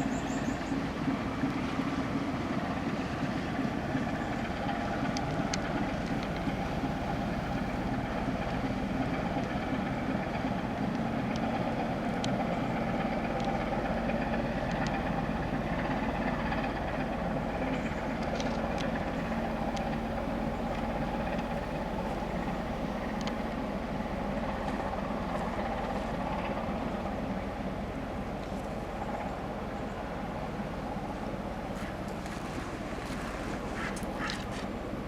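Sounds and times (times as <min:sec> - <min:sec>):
ship engine droning: 0:00.0 - 0:35.0.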